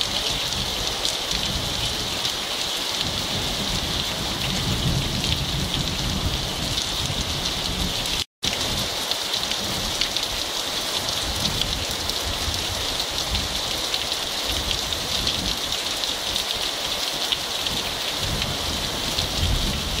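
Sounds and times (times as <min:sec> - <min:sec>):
heavy rain on trees and ground: 0:00.0 - 0:20.0.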